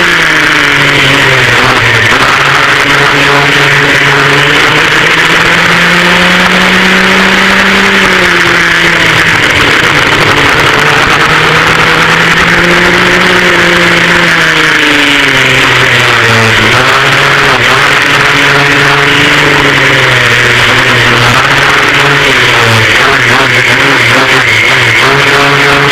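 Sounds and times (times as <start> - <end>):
racing kart engines: 0.0 - 25.9.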